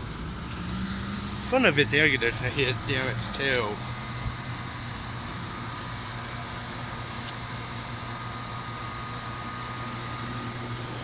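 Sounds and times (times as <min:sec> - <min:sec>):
air conditioner hum: 0:00.0 - 0:11.0
fan rushing: 0:00.0 - 0:11.0
thin steady whine: 0:00.0 - 0:11.0.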